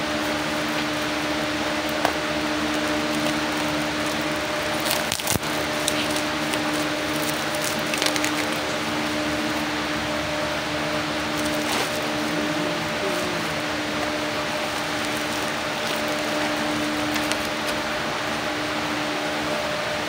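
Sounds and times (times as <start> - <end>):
packaging crackling: 0.0 - 9.7, 10.9 - 18.0
electric fan humming: 0.0 - 20.0.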